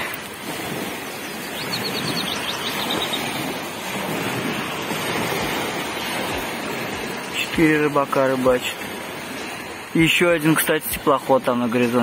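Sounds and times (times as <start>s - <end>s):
wind buffeting microphone: 0.0s - 10.4s
small waves on pebble shore: 0.0s - 12.0s.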